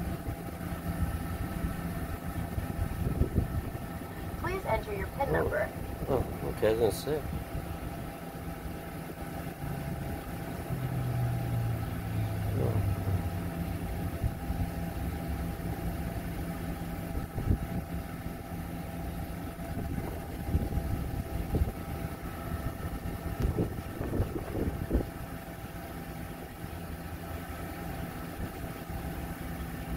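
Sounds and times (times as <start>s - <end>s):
van engine idling: 0.0s - 29.9s.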